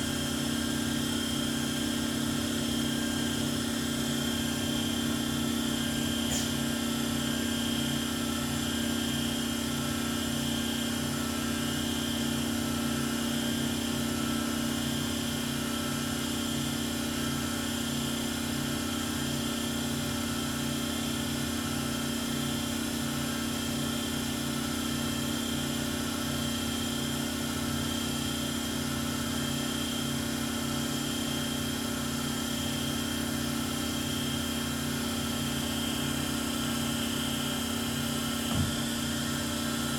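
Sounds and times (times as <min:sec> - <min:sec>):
lathe machine hum and whine: 0:00.0 - 0:39.9.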